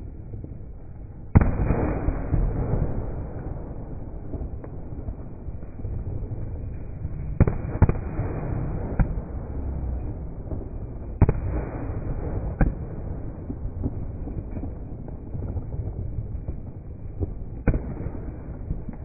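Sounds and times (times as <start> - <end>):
continuous low rumble: 0.0 - 19.0
fireworks bangs: 1.3 - 19.0.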